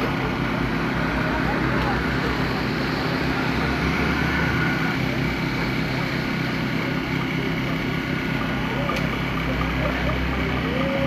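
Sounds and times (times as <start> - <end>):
engine droning: 0.0 - 11.0
faint voices: 0.0 - 11.0.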